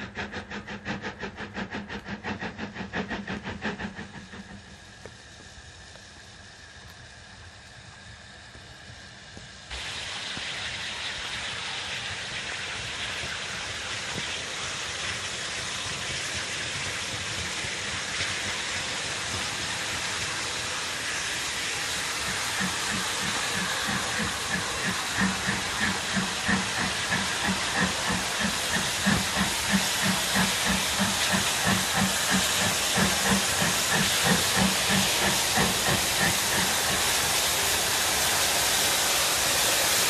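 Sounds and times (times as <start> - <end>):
steam locomotive rhythmic beats: 0.0 - 6.4, 8.0 - 40.0
steam hissing: 0.0 - 40.0.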